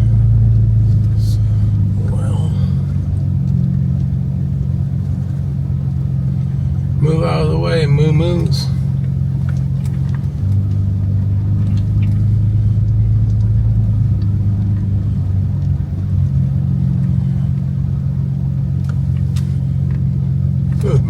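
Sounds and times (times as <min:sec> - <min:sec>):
pickup truck engine droning: 0:00.0 - 0:21.0.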